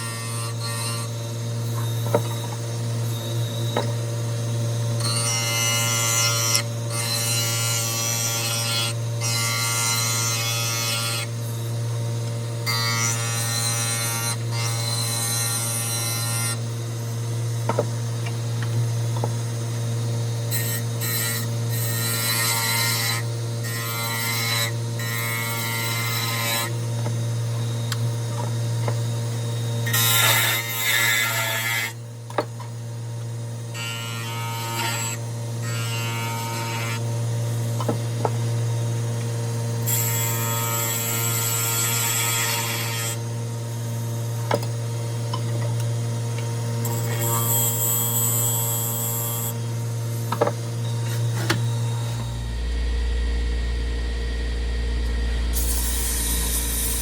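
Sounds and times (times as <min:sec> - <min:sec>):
wood lathe motor hum: 0:00.0 - 0:57.0.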